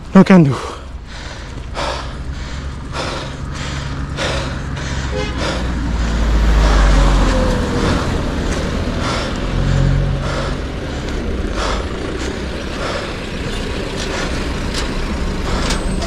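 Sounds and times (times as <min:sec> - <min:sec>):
vehicle engine passing: 0:01.0 - 0:16.0.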